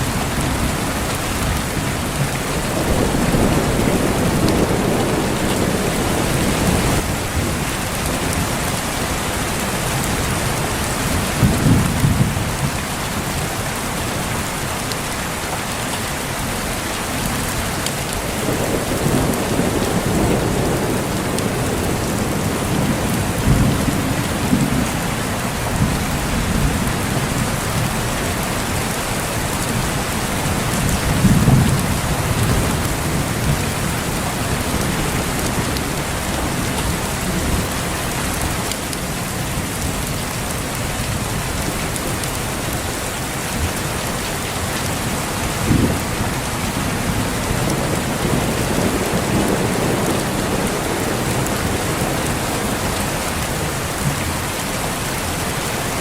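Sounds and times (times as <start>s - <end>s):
thunder rumbling: 0.0s - 13.3s, 17.3s - 42.7s, 44.9s - 54.3s
heavy rain falling: 0.0s - 56.0s.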